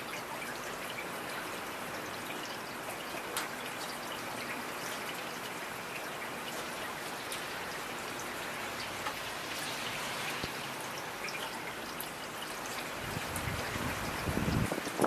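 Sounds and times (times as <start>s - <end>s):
raindrops ticking on a surface: 0.0s - 15.0s
steady rain: 0.0s - 15.0s.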